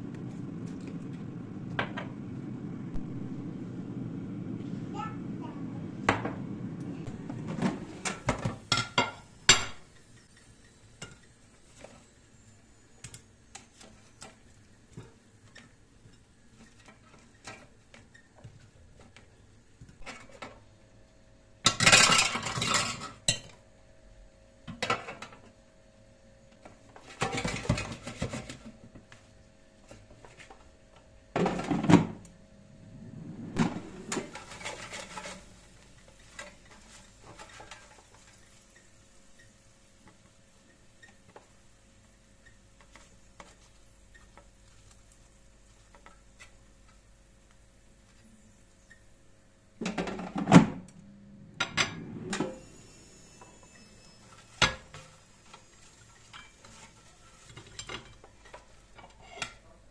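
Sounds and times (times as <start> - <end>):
faint steady hum: 0.0 - 18.2, 19.0 - 59.9.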